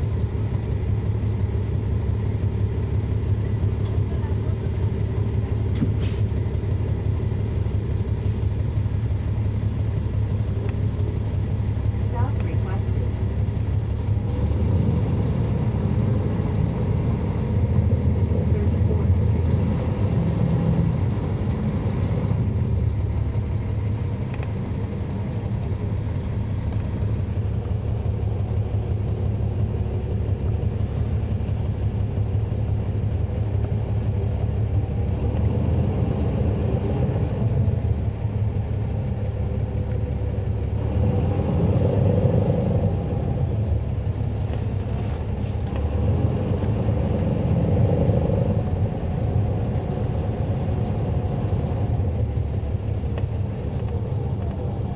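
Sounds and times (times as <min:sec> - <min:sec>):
bus diesel engine rumble: 0:00.0 - 0:54.9.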